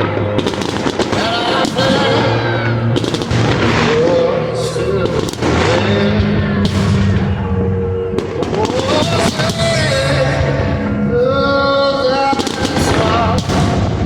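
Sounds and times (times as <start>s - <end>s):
fireworks bangs and crackles: 0.0s - 14.0s
music: 0.0s - 14.0s.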